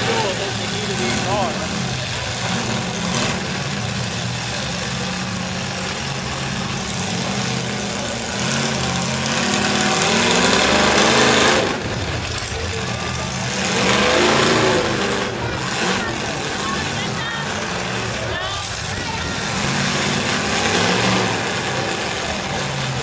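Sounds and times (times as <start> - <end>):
truck engine revving: 0.0 - 23.0
truck engines running: 0.0 - 23.0.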